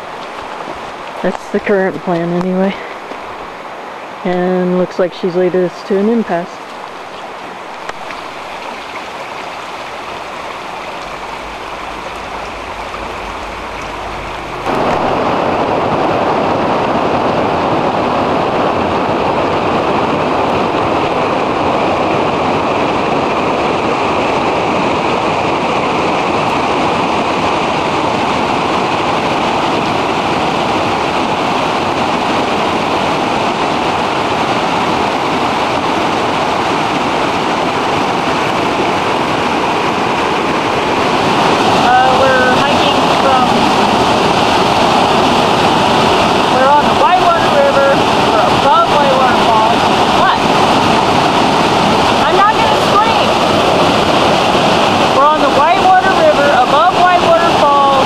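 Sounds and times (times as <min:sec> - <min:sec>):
river water rushing over rapids: 0:00.0 - 0:58.0.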